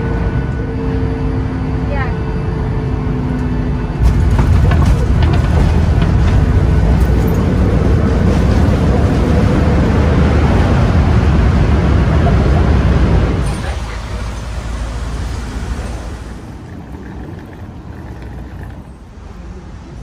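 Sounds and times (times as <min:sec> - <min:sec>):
jet engines in reverse thrust: 0:00.0 - 0:16.8.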